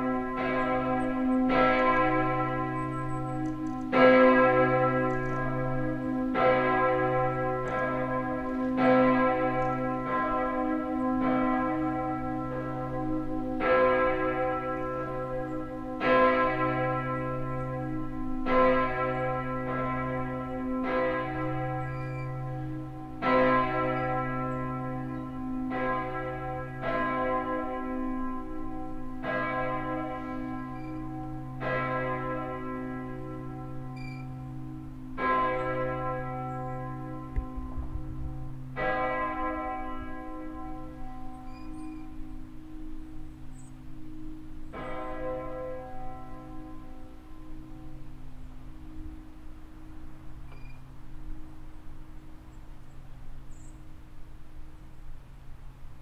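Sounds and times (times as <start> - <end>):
large church bell ringing: 0.0 - 55.0.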